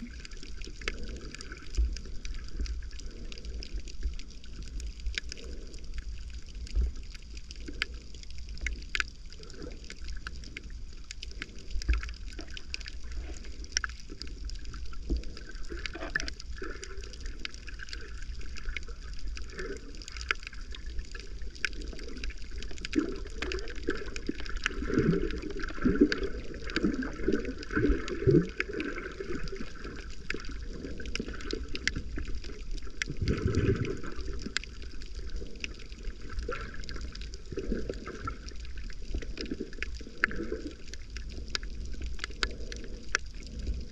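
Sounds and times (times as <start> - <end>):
bubbling gurgles: 0.0 - 43.9
sharp underwater clicks: 0.0 - 43.9
underwater gurgling wash: 0.0 - 43.9.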